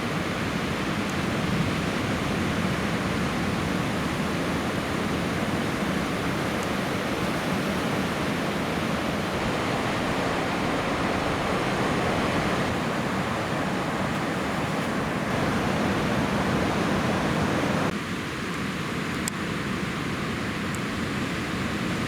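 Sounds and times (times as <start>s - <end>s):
ocean waves breaking: 0.0s - 17.9s.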